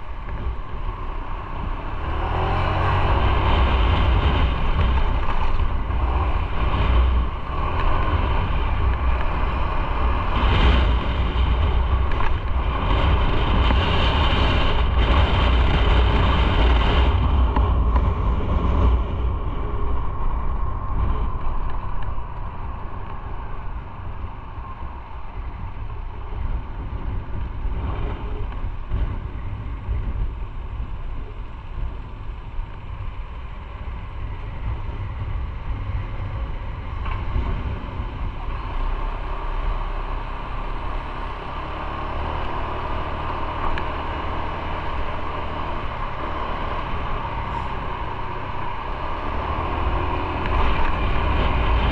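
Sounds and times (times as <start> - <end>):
motorcycle engine running: 0.0 - 51.9
wind rushing over microphone: 0.0 - 51.9.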